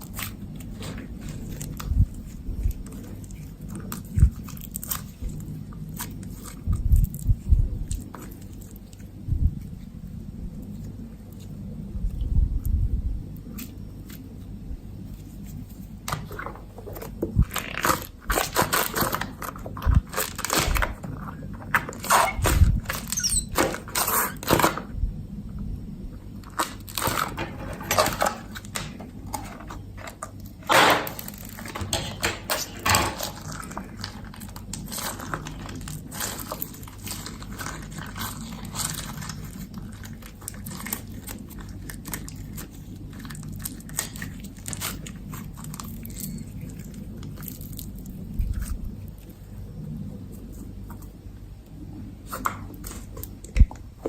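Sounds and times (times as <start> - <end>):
slime crackling and popping: 0.0 - 9.8, 10.6 - 24.9, 26.2 - 49.6.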